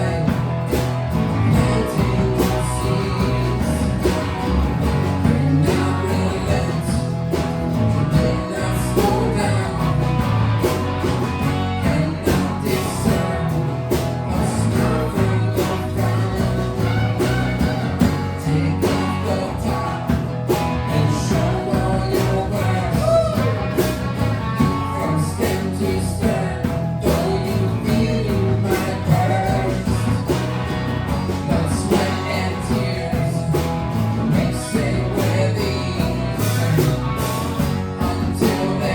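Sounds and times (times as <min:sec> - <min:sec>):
electric guitar: 0:00.0 - 0:38.9
live rock band playing: 0:00.0 - 0:38.9.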